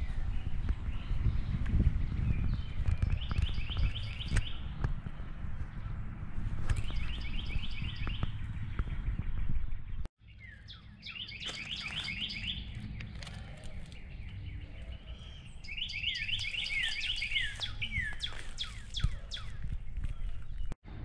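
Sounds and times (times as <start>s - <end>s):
steady low rumble: 0.0s - 10.1s, 12.1s - 21.0s
songbird singing: 0.0s - 20.8s.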